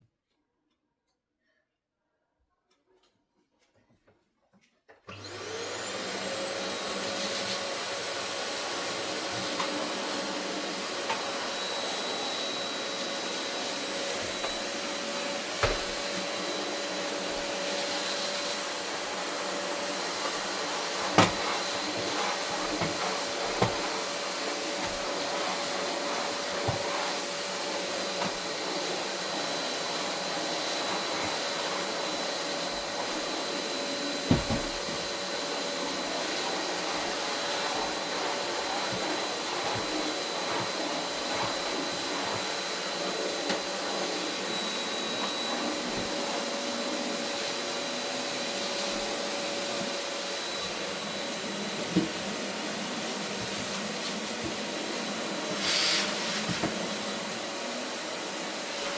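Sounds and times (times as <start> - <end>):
vacuum cleaner whining: 5.0 - 58.9.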